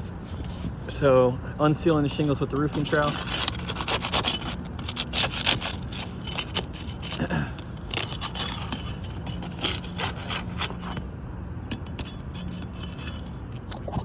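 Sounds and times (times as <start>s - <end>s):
trowel scraping under shingles: 0.0s - 11.0s, 11.7s - 14.0s.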